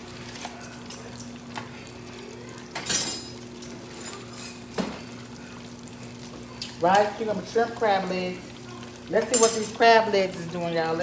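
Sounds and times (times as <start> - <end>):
food sizzling in deep fryer: 0.0 - 11.0.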